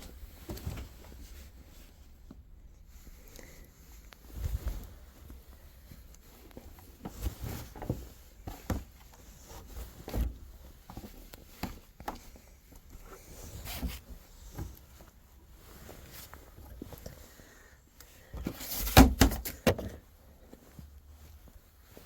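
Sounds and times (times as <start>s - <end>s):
damp clothes thumping and rustling: 0.0s - 3.1s, 4.0s - 17.4s, 18.2s - 22.0s.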